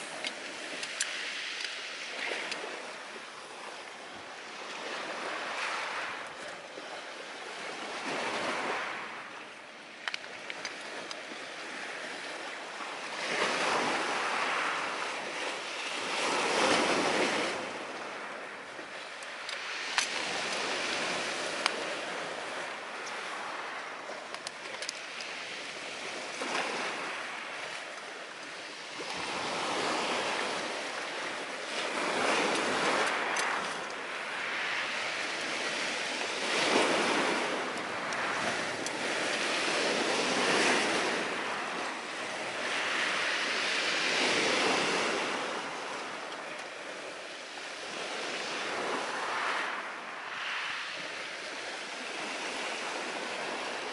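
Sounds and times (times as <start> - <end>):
sea surf breaking on shore: 0.0 - 53.9.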